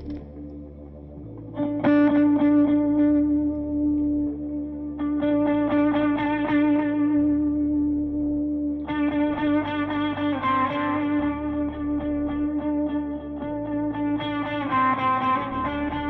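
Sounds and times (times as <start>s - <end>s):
guitar repeating note pattern: 0.0s - 16.0s.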